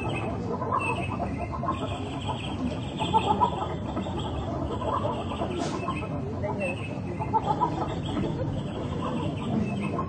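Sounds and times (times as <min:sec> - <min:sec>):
chickens clucking: 0:00.0 - 0:10.0
high-pitched chirring: 0:00.0 - 0:10.0.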